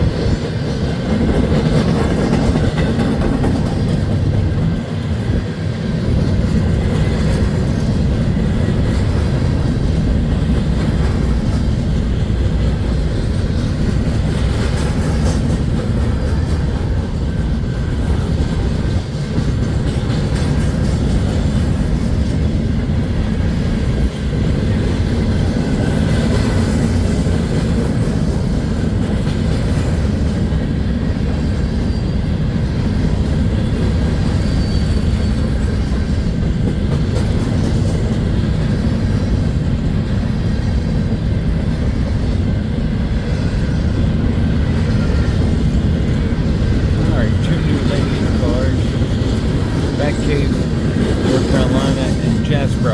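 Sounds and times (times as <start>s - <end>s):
freight train wheels rumbling on track: 0.0s - 52.9s.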